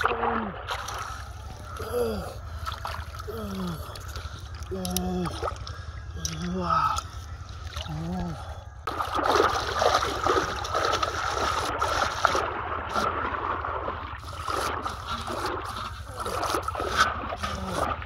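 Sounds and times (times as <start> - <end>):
person wading with heavy steps: 0.0 - 18.0
river water splashing: 0.0 - 18.0.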